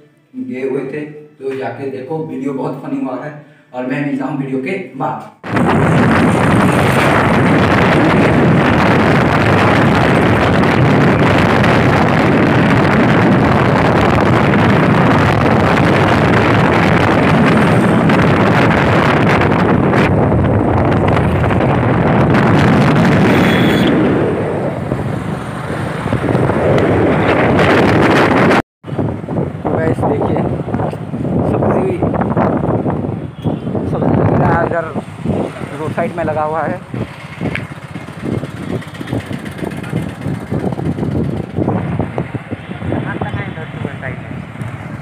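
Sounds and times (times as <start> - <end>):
wind rush on microphone: 5.4 - 45.0
motorcycle riding: 5.5 - 31.5, 32.1 - 45.0.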